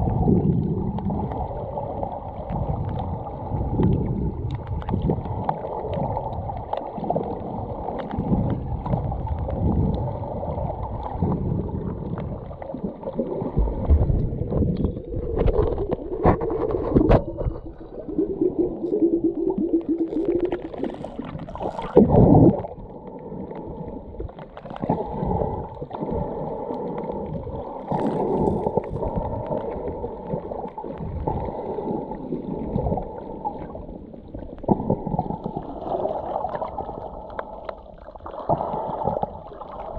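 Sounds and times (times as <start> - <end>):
water sloshing and gurgling underwater: 0.0 - 39.9.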